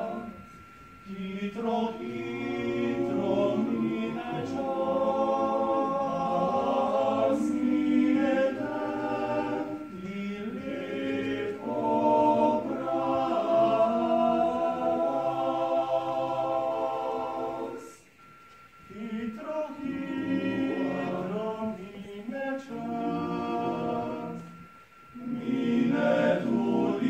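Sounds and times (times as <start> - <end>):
male vocal group singing in harmony: 0.0 - 18.1, 18.8 - 27.0.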